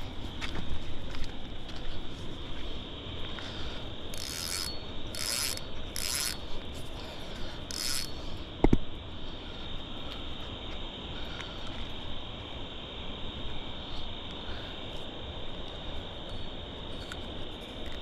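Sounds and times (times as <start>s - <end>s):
crickets chirring: 0.0s - 18.0s
low background noise: 0.0s - 18.0s.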